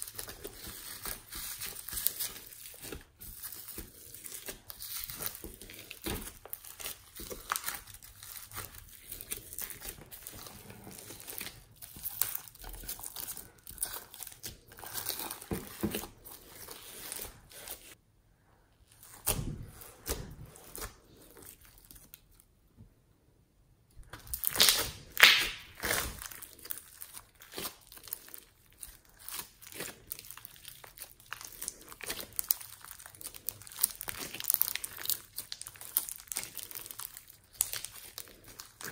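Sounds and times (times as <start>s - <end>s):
slime crackling and squishing: 0.0s - 18.0s, 18.9s - 22.4s, 24.0s - 38.9s.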